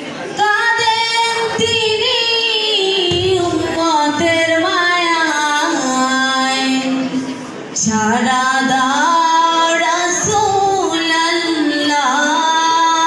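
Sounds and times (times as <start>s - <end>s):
girl singing through loudspeaker: 0.1s - 13.0s.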